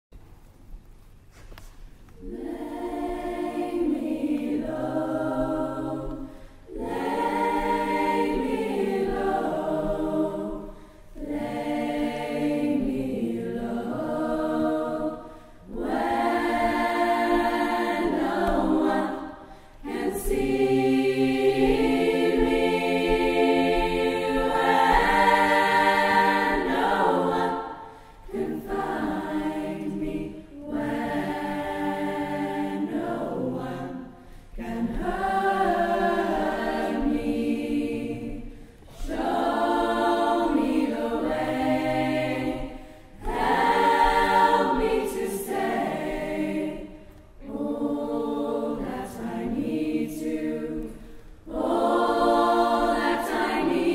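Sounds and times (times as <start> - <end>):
choir singing a cappella: 2.2 - 53.9.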